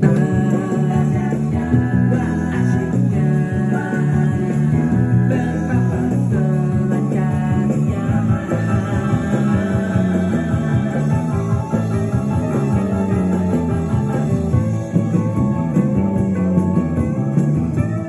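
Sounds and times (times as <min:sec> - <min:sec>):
rock song with guitar and bass: 0:00.0 - 0:18.0.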